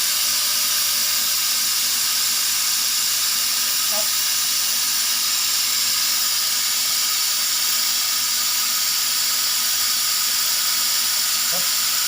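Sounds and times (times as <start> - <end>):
laser cutter hissing: 0.0 - 12.0.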